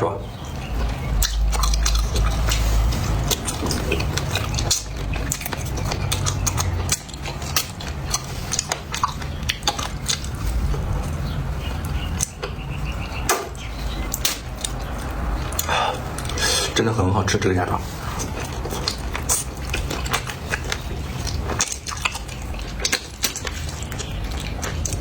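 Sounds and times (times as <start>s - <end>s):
chewing with crunches: 0.3s - 25.0s.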